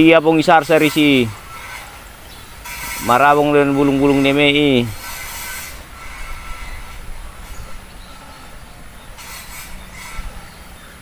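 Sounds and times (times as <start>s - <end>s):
rice stalks rustling: 0.0s - 10.4s
wind rumbling on microphone: 1.3s - 11.0s.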